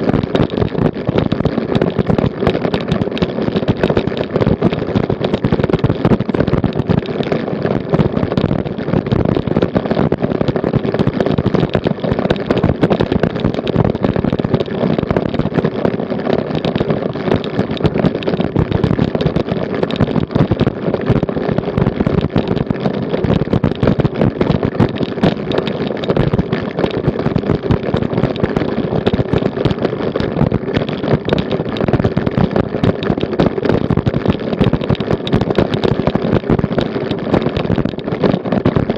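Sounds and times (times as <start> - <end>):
bicycle rattling over cobblestones: 0.0 - 38.9.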